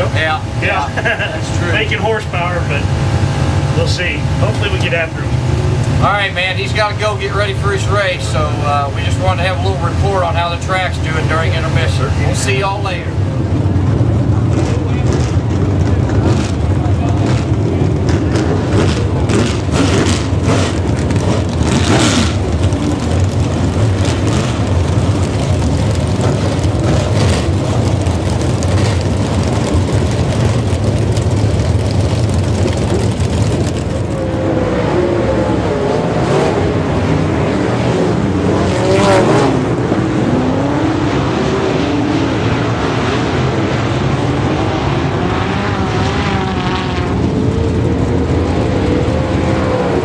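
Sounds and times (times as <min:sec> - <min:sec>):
cars revving and passing: 0:00.0 - 0:50.0
race car engines: 0:00.0 - 0:50.0.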